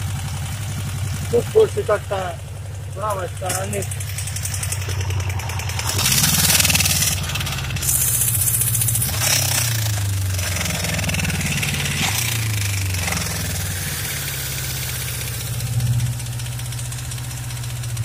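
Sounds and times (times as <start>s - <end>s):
high clicking engine knock: 0.0s - 18.0s
motorcycle engine revving: 0.0s - 18.0s.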